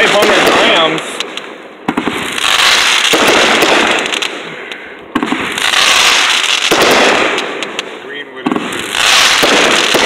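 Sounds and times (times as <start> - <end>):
fireworks bursting and crackling: 0.0 - 10.0
firework bang: 1.8 - 10.0.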